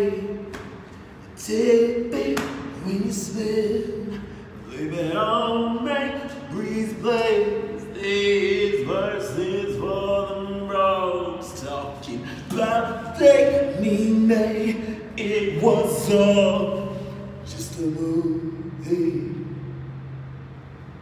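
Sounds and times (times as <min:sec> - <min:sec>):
man singing slow melody: 0:00.0 - 0:00.5, 0:01.2 - 0:20.3.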